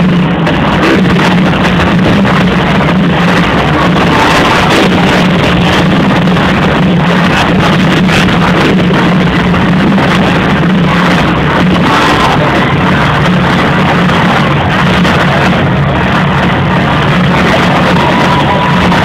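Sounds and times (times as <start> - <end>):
motorcycle engines droning: 0.0 - 19.0.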